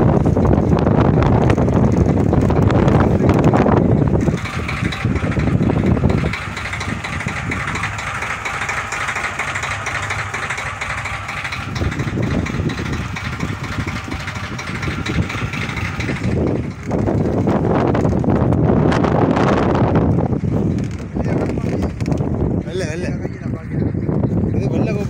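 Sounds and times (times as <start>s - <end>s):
boat engine running: 0.0s - 25.0s
wind buffeting microphone: 0.0s - 25.0s.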